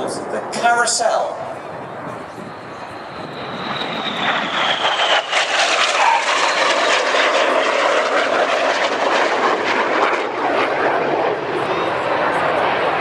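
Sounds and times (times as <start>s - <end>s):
jets flying low: 0.0s - 13.0s.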